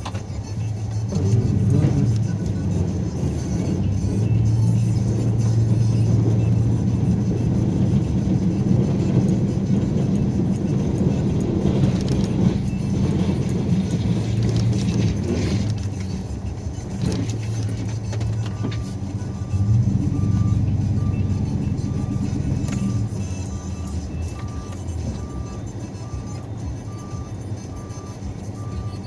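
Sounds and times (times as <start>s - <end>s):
snowplow engine running with rattling: 0.0s - 29.0s.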